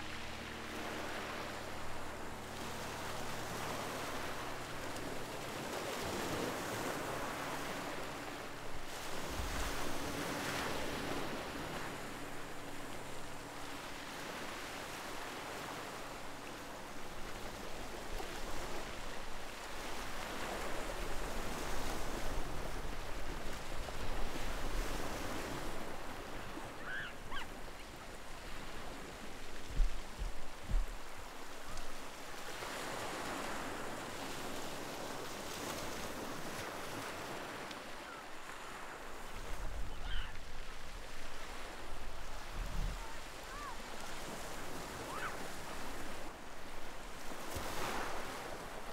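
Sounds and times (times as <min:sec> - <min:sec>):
waves breaking: 0:00.0 - 0:48.9.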